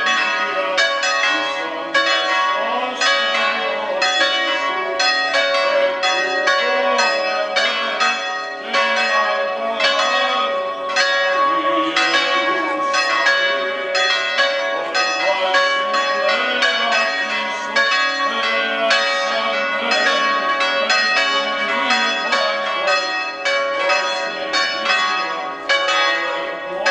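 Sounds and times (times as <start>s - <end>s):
church bells pealing: 0.0s - 26.9s.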